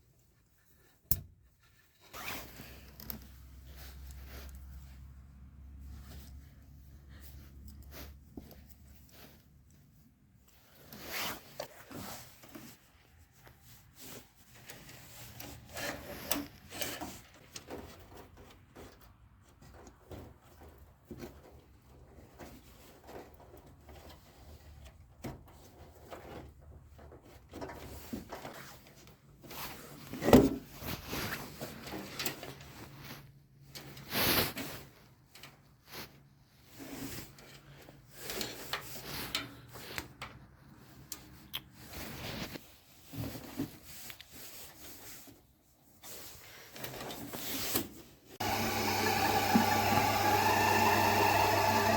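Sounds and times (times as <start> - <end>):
rubbing and scraping handling noises: 0.0 - 51.9.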